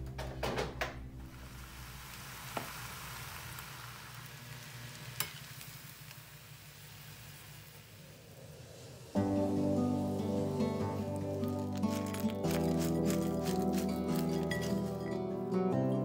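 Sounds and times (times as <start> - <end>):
rice sizzling in a pan: 1.2 - 15.1.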